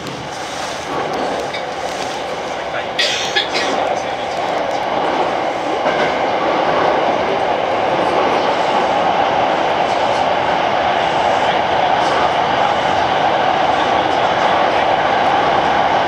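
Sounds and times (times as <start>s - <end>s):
train rumbling in tunnel: 0.0s - 16.0s.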